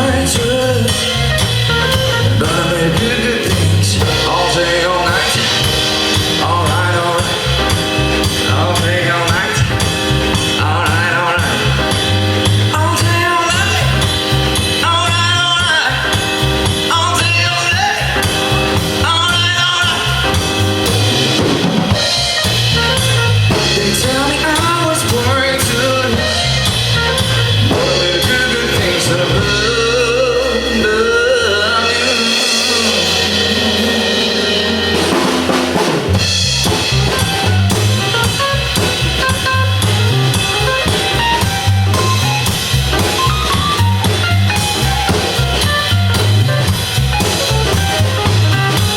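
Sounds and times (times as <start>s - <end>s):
drum kit beat: 0.0s - 48.9s
live pop band playing: 0.0s - 48.9s.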